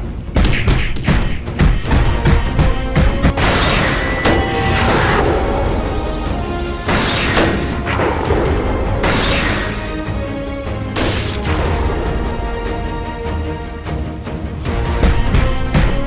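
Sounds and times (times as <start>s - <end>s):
dramatic music: 0.0s - 16.0s
crashing booms: 0.4s - 13.8s.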